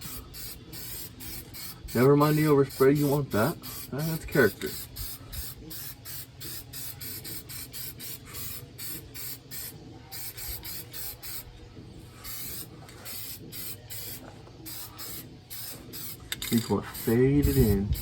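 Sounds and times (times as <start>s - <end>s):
spray can hissing bursts: 0.0s - 11.4s, 12.2s - 18.0s.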